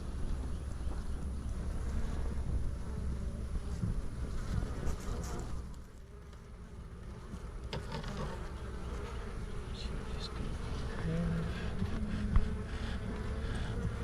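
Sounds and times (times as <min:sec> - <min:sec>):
honeybees buzzing: 0:00.0 - 0:14.0
single bees droning: 0:00.0 - 0:14.0.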